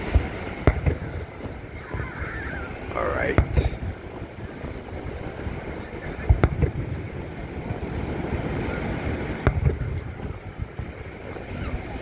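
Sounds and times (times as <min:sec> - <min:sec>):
surf: 0:00.0 - 0:12.0
wind: 0:00.0 - 0:12.0.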